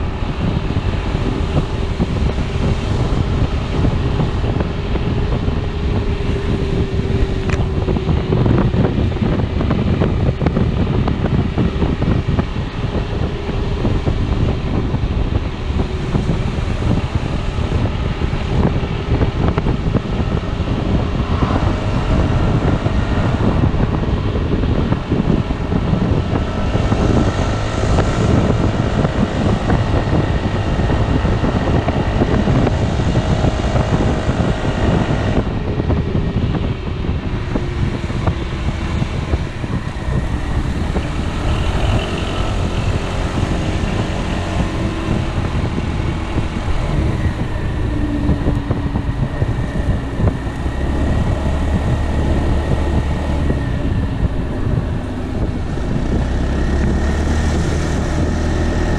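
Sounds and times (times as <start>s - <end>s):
road noise: 0.0s - 58.9s
scooter engine running: 0.0s - 58.9s
wind noise: 0.0s - 58.9s.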